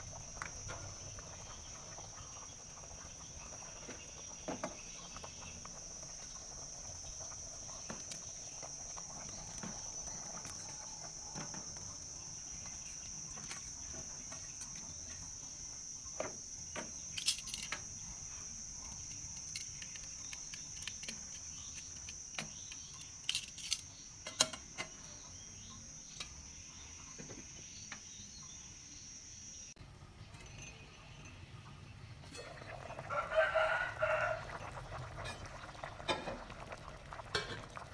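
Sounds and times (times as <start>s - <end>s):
insect trilling: 0.0s - 29.7s, 32.4s - 37.9s.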